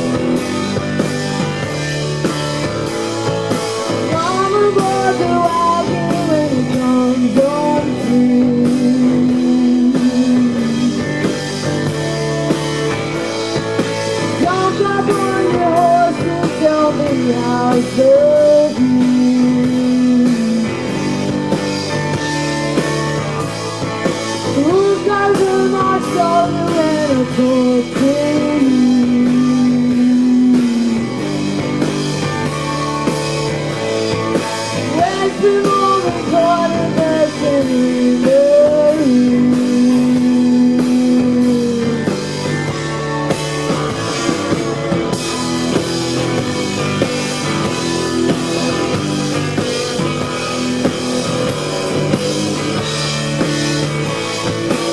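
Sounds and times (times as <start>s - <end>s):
drum beat: 0.0s - 54.9s
live rock band playing: 0.0s - 54.9s.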